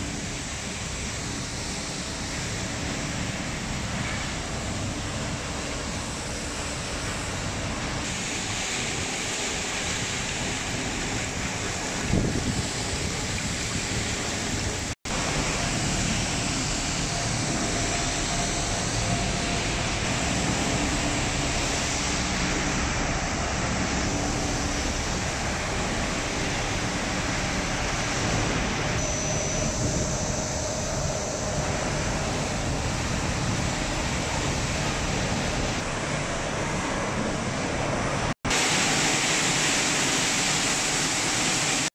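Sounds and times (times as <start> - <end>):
machine noise: 0.0 - 41.9
rushing water: 0.0 - 41.9.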